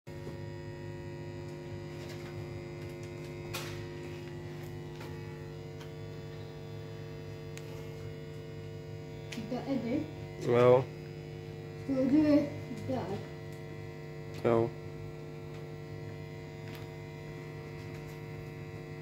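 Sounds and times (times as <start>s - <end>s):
electrical hum: 0.1s - 19.0s.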